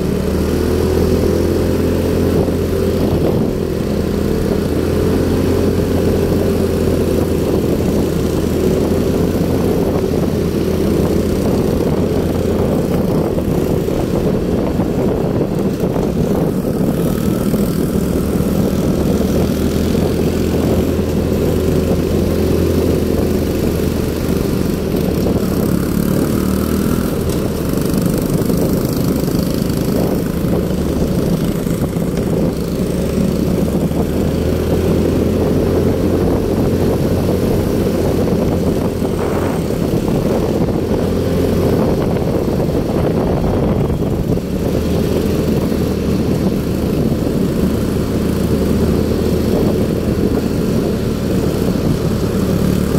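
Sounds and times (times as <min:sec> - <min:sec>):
motorcycle engine humming: 0:00.0 - 0:52.9.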